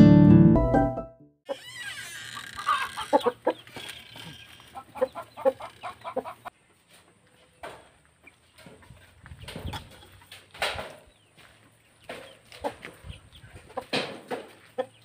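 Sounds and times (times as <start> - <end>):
chickens clucking: 2.4 - 15.0.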